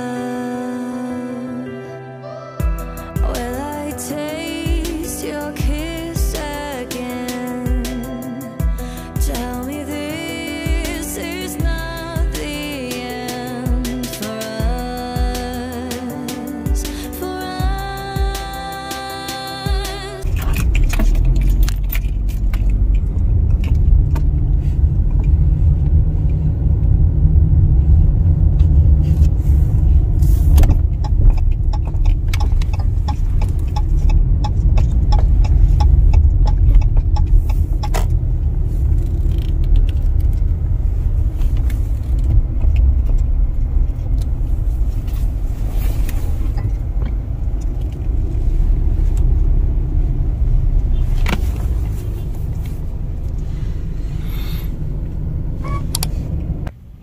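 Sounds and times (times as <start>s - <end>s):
car road and engine rumble: 2.6s - 57.0s.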